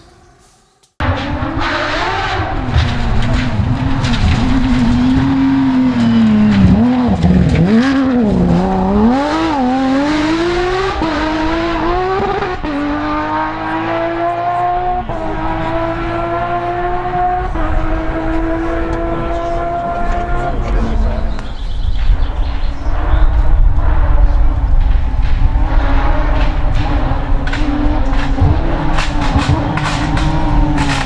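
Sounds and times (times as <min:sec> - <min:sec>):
car engine revving with upshifts: 0:01.0 - 0:21.5, 0:22.7 - 0:31.0.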